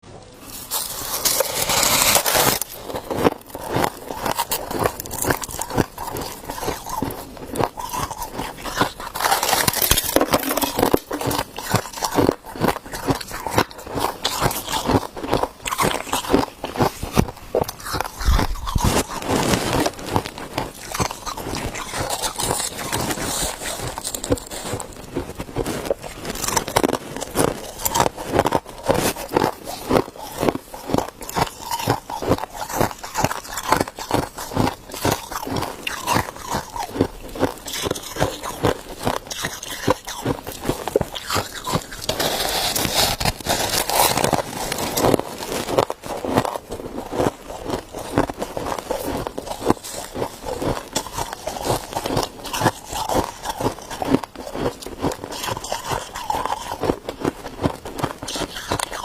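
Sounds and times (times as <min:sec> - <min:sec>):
person chewing ice: 0:00.5 - 0:59.0.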